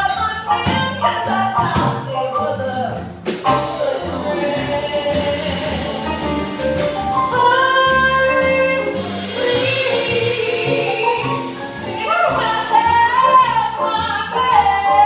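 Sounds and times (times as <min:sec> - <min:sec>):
live band playing slow jazz: 0:00.0 - 0:15.0.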